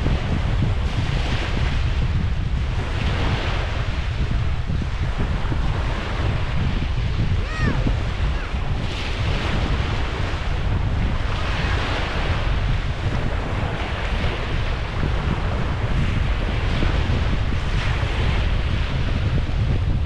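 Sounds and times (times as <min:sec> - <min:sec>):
small waves washing onto beach: 0:00.0 - 0:20.0
wind blowing across microphone: 0:00.0 - 0:20.0.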